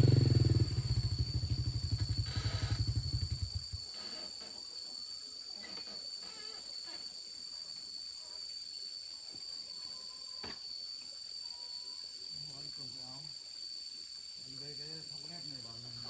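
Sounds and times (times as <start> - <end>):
faint wavering calls: 0.0 - 13.2
high-pitched insect drone: 0.0 - 16.0.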